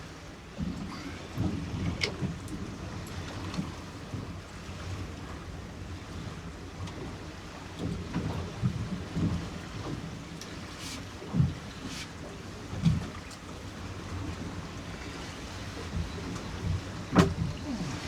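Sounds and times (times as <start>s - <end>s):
water slapping a boat: 0.0s - 18.0s.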